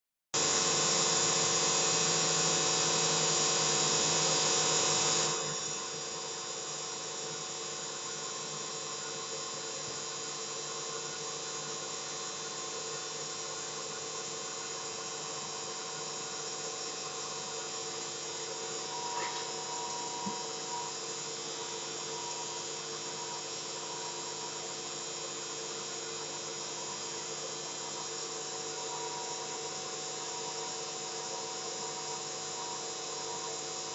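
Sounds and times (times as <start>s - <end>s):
electronic whine of held tones: 0.4s - 33.9s.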